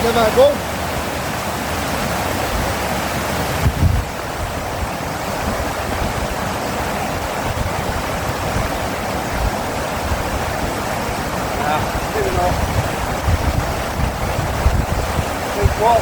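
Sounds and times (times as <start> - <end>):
fast-flowing water rushing: 0.0 - 16.0
wind buffets on microphone: 0.0 - 16.0.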